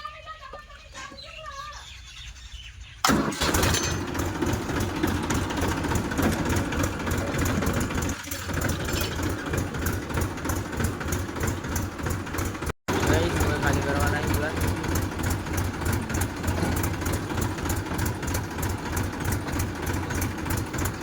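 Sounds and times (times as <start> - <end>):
tractor diesel engine running: 3.0 - 21.0.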